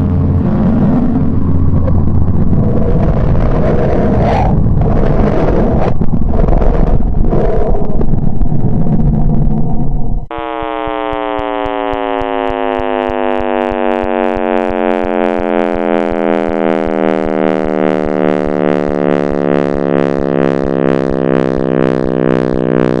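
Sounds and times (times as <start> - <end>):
rapid regular ticking: 0.0 - 23.0
synthesized drone hum falling in pitch: 0.0 - 23.0.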